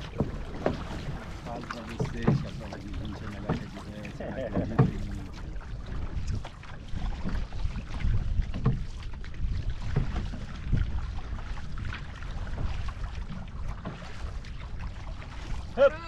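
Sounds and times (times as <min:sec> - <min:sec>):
paddles splashing in water: 0:00.0 - 0:16.0
water rushing along hull: 0:00.0 - 0:16.0
wind rumbling on microphone: 0:00.0 - 0:16.0.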